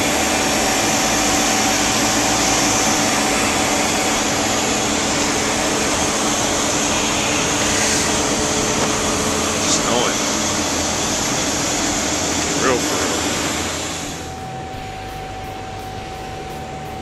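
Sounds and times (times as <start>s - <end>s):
jet turbine rush with whining tones: 0.0s - 17.0s.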